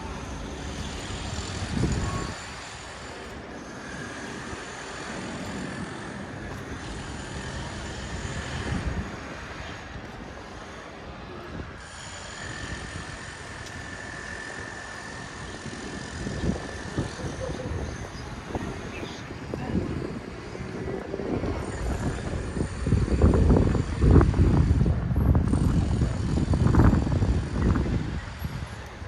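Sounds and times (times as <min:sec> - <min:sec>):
traffic noise with low rumble: 0:00.0 - 0:29.0.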